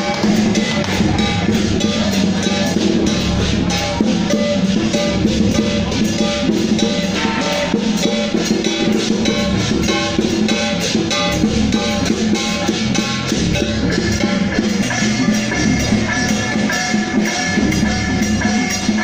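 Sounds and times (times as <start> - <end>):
drums and metal percussion: 0.0 - 19.0.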